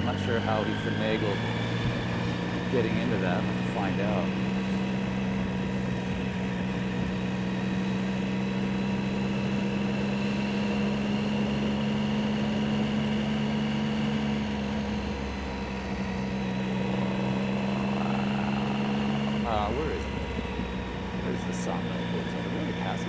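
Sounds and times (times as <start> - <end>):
motorcycle engine running: 0.0 - 23.0
road and wind noise: 0.0 - 23.0.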